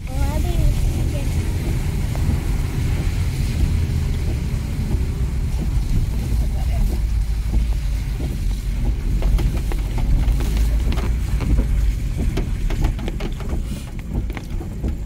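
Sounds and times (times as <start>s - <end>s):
engine and tyres rumbling: 0.0s - 15.0s
light knocks and ticks: 1.6s - 15.0s.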